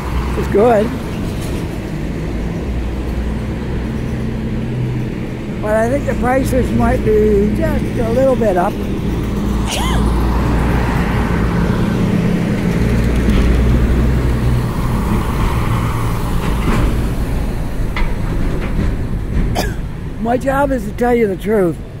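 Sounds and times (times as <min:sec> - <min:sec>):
street traffic: 0:00.0 - 0:22.0
vehicle engine rumbling: 0:00.0 - 0:22.0.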